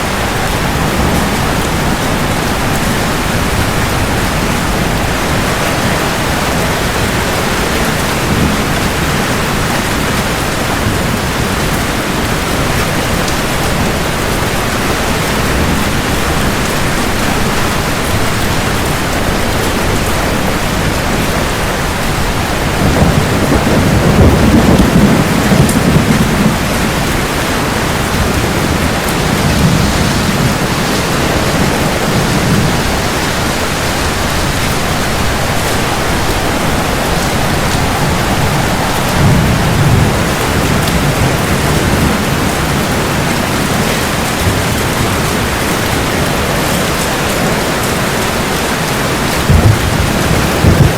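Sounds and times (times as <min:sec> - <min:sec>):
heavy rain: 0:00.0 - 0:50.9
rolling thunder: 0:00.0 - 0:50.9.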